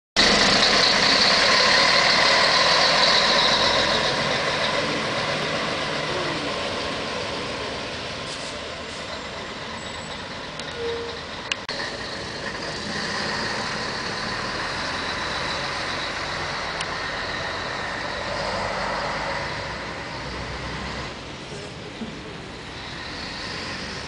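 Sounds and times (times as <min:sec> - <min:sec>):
bus diesel engine driving off: 0:00.2 - 0:24.0.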